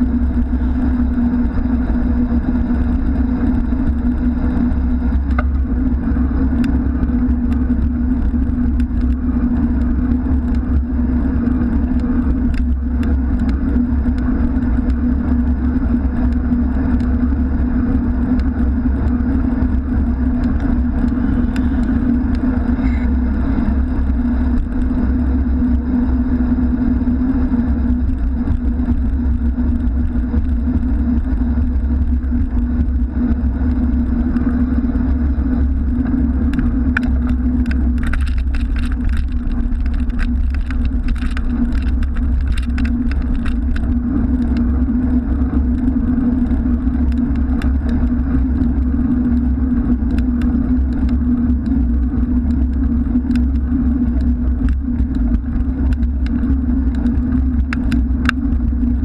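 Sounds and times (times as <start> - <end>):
bicycle tyre and wind noise: 0.0 - 59.0
passing motor traffic: 0.0 - 59.0.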